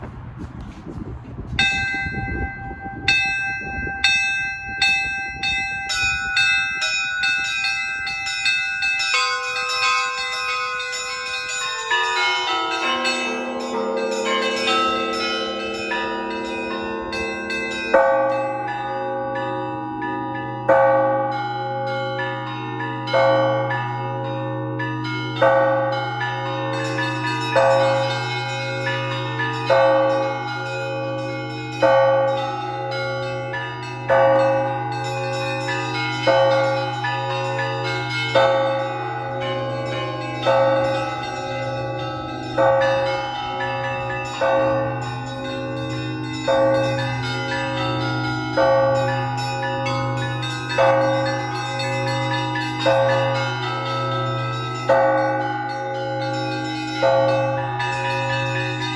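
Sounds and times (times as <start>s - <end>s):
small chiming bells: 1.6s - 58.9s.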